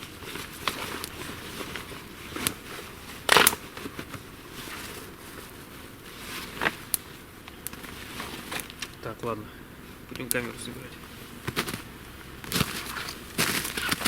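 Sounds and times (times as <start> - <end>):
burning wood popping: 0.0 - 14.0
campfire crackling: 0.0 - 14.0
light background hiss: 0.0 - 14.0.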